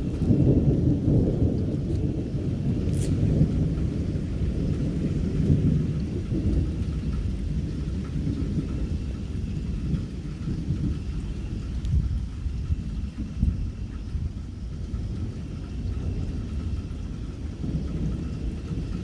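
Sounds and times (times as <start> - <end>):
rain falling: 0.0 - 19.0
thunder rumbling: 0.0 - 19.0.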